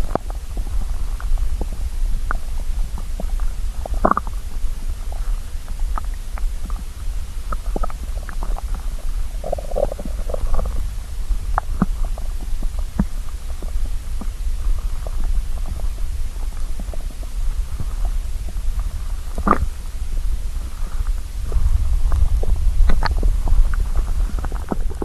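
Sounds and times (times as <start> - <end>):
stomach growling and gurgling: 0.0 - 25.0.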